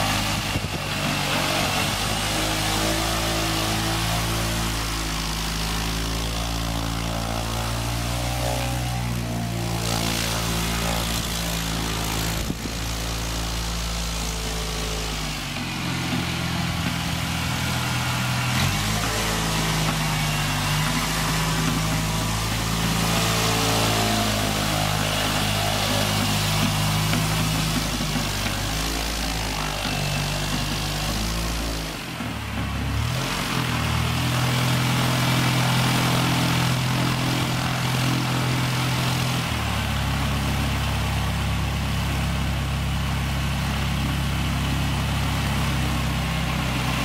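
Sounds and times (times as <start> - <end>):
aircraft engine and propeller: 0.0 - 47.0.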